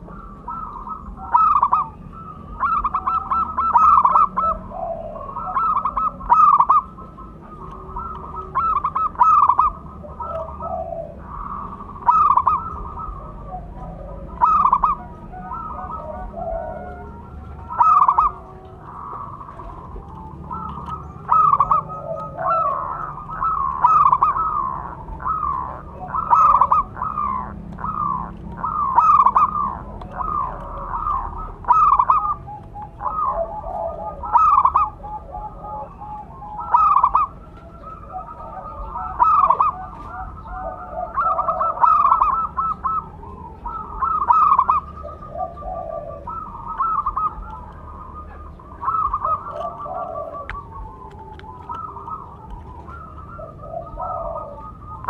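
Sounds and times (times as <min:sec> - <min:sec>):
doves cooing: 0:00.0 - 0:55.0
lower-pitched dove calls: 0:00.0 - 0:55.0.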